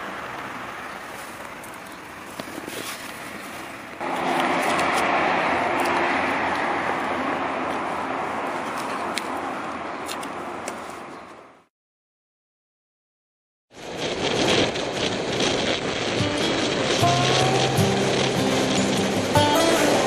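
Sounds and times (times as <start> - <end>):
vehicle engine and tyre noise: 0.0 - 11.7, 13.7 - 20.0.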